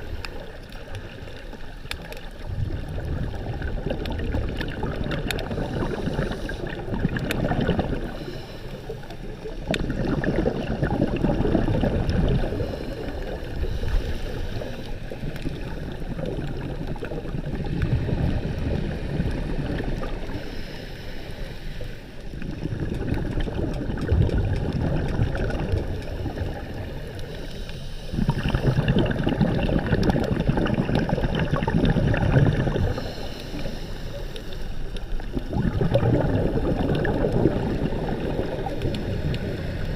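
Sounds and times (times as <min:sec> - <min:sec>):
water churning and gurgling: 0:00.0 - 0:39.9.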